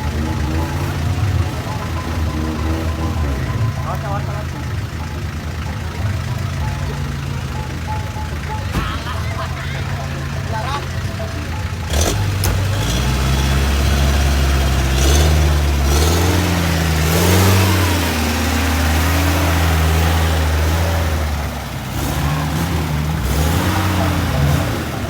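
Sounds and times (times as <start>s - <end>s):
off-road engine revving: 0.0s - 25.0s.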